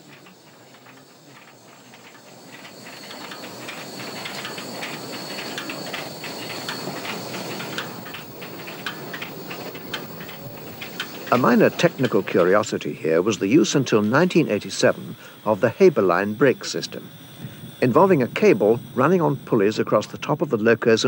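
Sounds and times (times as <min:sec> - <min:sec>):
running gear clanking: 0:00.0 - 0:21.0
steam hissing: 0:00.0 - 0:21.0
steam locomotive moving slowly: 0:00.0 - 0:21.0.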